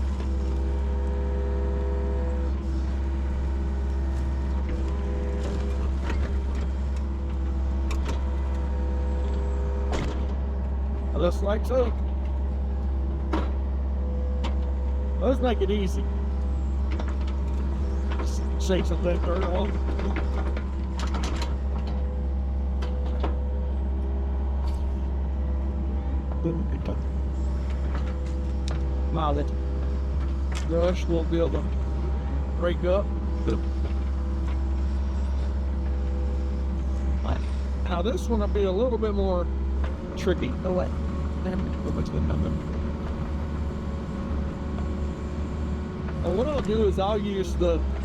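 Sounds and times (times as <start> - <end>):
excavator diesel engine running: 0.0 - 48.0
hydraulics working: 0.0 - 48.0.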